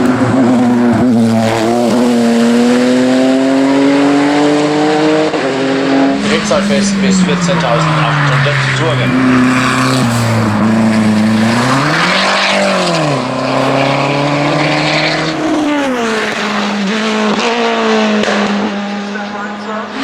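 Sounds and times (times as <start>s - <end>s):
race car engine at full throttle: 0.0s - 20.0s.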